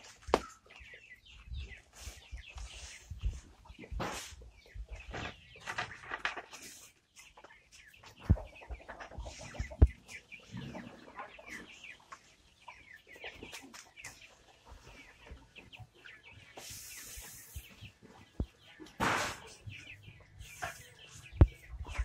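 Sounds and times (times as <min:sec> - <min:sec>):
chickens clucking and peeping: 0:00.0 - 0:22.0.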